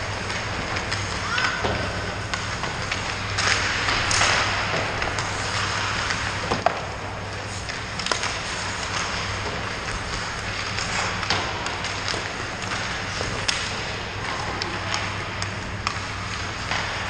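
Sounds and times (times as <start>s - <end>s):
skate blades scraping ice: 0.0s - 17.0s
steady low hum: 0.0s - 17.0s
pucks clacking off sticks: 0.1s - 17.0s.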